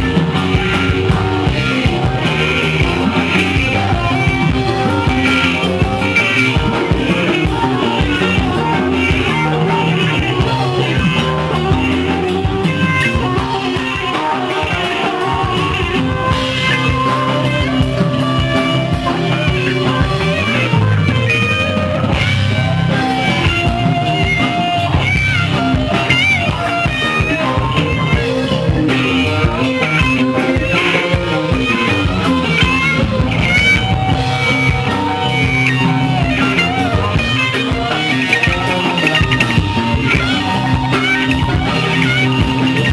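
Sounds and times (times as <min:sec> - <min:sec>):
drums: 0:00.0 - 0:42.9
electric guitar lead: 0:00.0 - 0:42.9.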